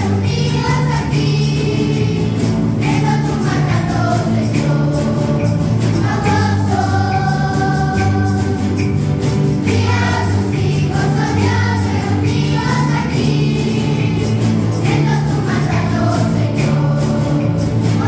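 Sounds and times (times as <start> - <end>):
choir singing a hymn: 0.0 - 18.0
strummed acoustic guitars: 0.0 - 18.0.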